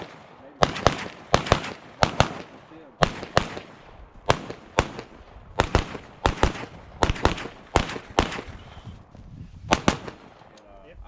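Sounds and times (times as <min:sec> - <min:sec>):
gunshots with echo: 0:00.0 - 0:09.0, 0:09.7 - 0:10.6.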